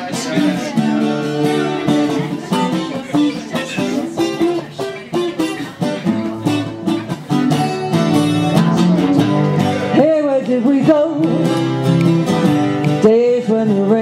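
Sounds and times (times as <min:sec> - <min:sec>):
guitar strumming and picking: 0:00.0 - 0:14.0.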